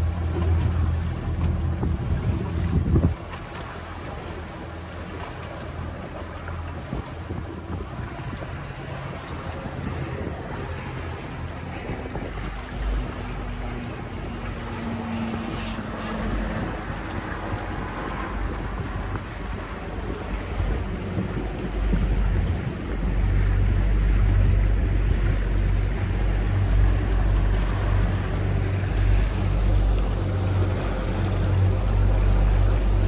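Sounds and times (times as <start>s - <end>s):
boat engine humming: 0.0s - 33.0s
water rushing past hull: 0.0s - 33.0s
wind on microphone: 0.0s - 33.0s.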